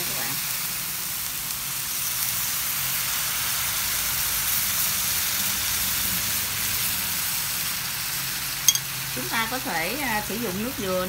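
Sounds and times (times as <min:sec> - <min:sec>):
fish sizzling in a frying pan: 0:00.0 - 0:11.0.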